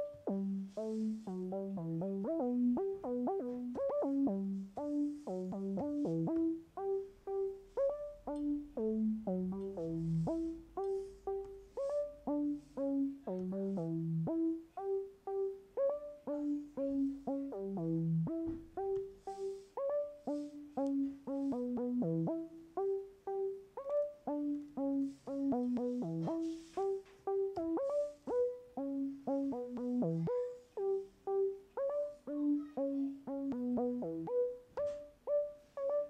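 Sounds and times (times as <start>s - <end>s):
looping synth pattern: 0.0s - 34.7s.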